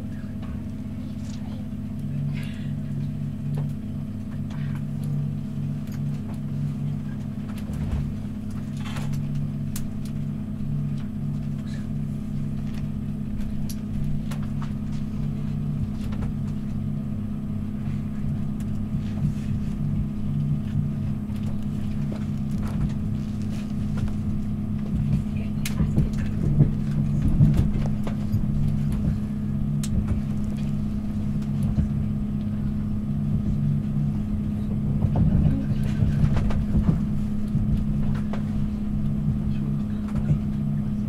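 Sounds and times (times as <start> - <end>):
train running gear hum: 0.0 - 41.0.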